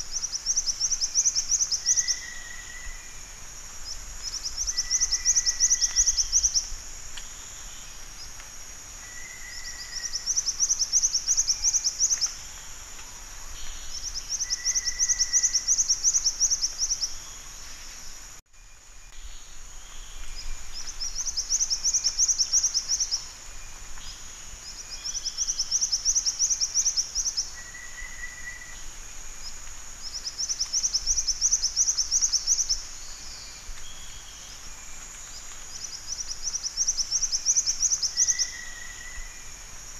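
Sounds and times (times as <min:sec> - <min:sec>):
high insect-like hum: 0:00.0 - 0:39.9.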